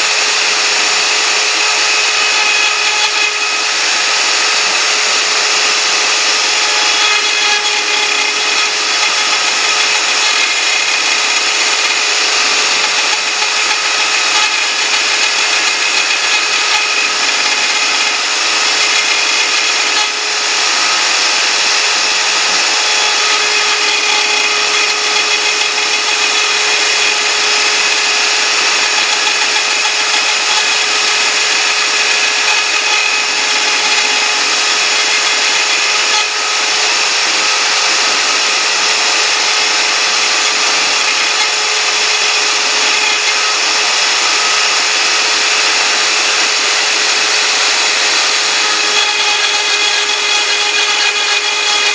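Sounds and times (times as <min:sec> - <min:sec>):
bit milling noise: 0:00.0 - 0:51.9
router spindle high whine: 0:00.0 - 0:51.9.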